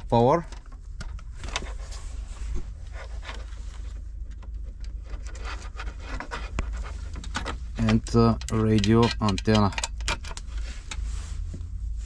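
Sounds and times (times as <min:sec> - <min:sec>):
connectors clicking and rustling: 0:00.0 - 0:11.6
steady low hum: 0:00.0 - 0:12.0.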